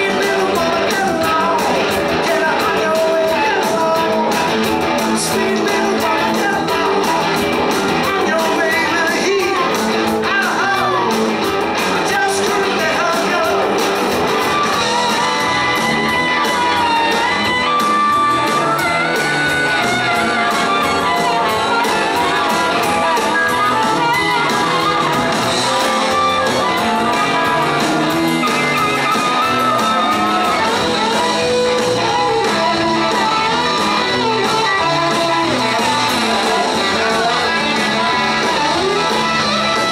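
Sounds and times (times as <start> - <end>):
bending lead guitar line: 0.0 - 39.9
harmonica: 0.0 - 39.9
rock band playing: 0.0 - 39.9.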